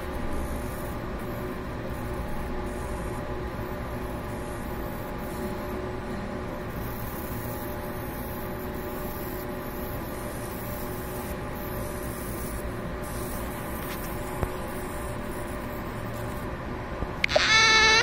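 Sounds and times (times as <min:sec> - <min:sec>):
laser engraver humming and hissing: 0:00.0 - 0:18.0.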